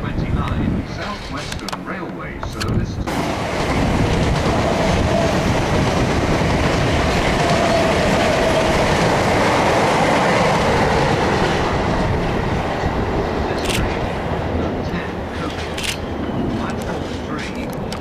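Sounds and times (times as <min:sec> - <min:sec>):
train wheels rushing on rail: 0:02.5 - 0:18.0.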